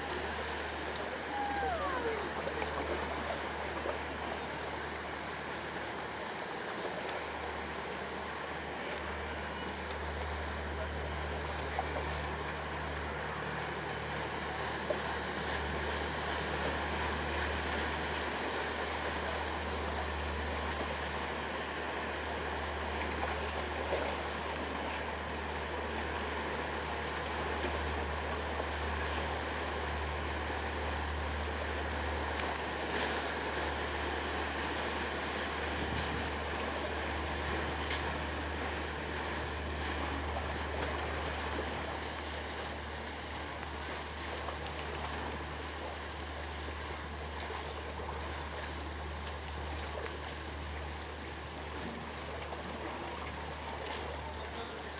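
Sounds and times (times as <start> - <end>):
churning splashing water: 0.0 - 54.9.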